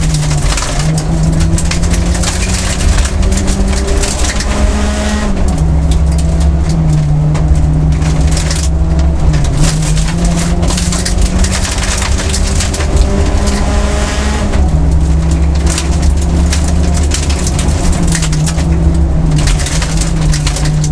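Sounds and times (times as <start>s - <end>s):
car engine running: 0.0s - 20.9s
gravel crunching under tyres: 0.0s - 20.9s.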